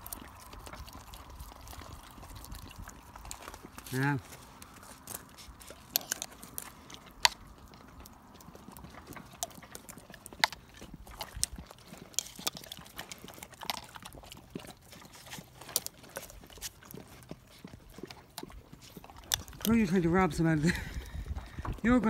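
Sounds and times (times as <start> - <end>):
dogs licking and smacking lips: 0.0 - 22.0
paws shifting on concrete: 0.0 - 22.0.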